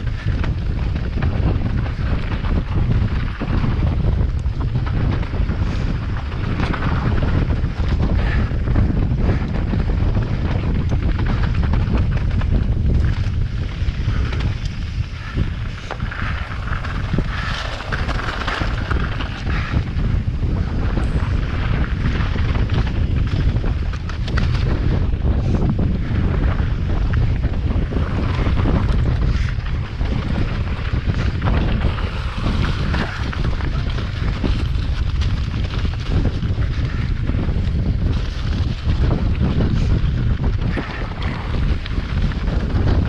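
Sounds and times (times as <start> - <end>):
bike clicks and rattles: 0.0 - 43.0
low rumble: 0.0 - 43.0
wind buffeting microphone: 0.0 - 43.0.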